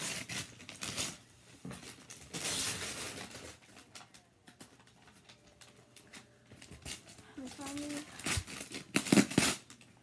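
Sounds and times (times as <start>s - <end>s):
wrapping paper ripping and crinkling: 0.0s - 10.0s.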